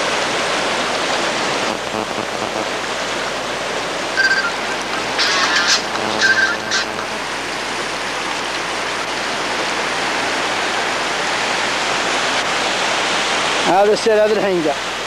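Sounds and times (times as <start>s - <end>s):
flood water rushing: 0.0s - 15.0s.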